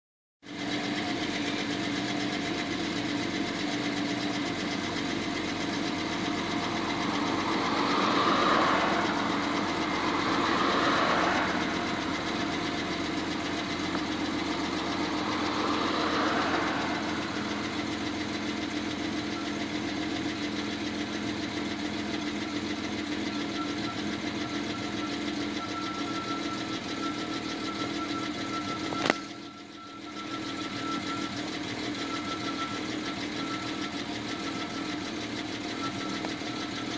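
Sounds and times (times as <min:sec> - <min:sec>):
car engine idling: 0:00.5 - 0:36.9
thin steady whine: 0:01.2 - 0:36.9.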